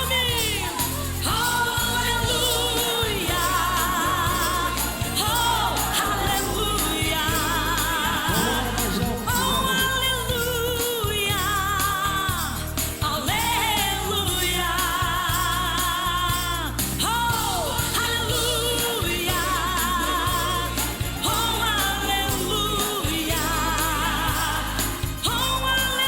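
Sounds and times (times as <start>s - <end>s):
instrumental gospel music: 0.0s - 26.0s.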